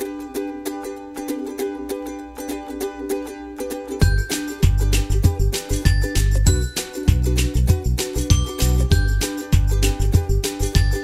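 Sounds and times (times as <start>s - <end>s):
plucked string background music: 0.0s - 11.0s.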